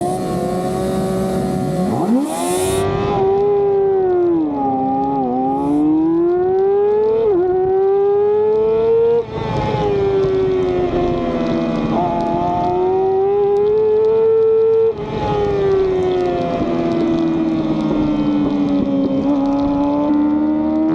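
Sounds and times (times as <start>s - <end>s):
racing motorcycle engine revving: 0.0s - 20.9s.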